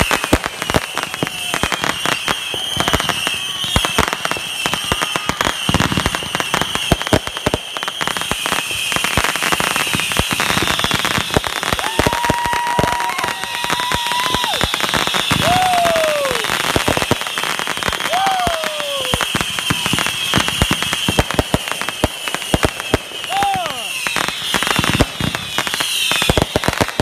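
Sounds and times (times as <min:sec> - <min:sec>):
firework shell bangs and crackling: 0:00.0 - 0:27.0.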